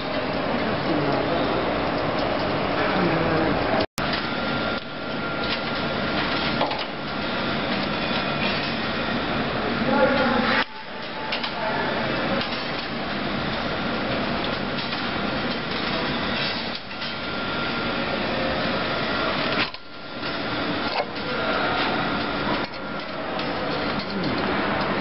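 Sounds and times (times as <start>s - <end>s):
metalworking machinery running: 0.0s - 25.0s.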